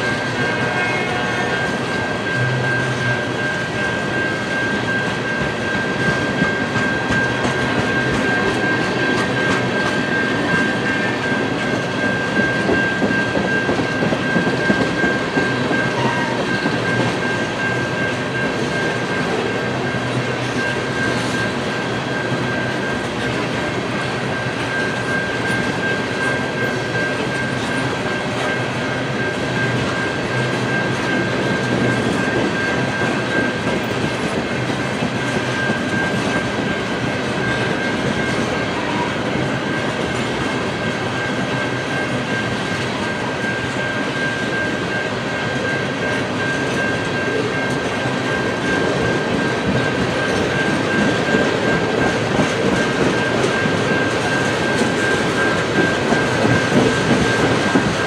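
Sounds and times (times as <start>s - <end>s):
freight train rolling on rails: 0.0s - 58.0s
steady high squeal: 0.0s - 58.0s.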